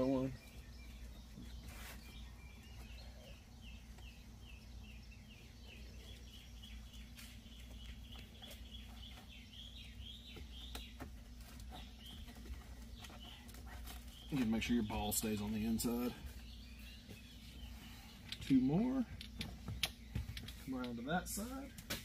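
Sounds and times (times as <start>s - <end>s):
bird chirping: 0.0s - 22.0s
low electrical hum: 0.0s - 22.0s.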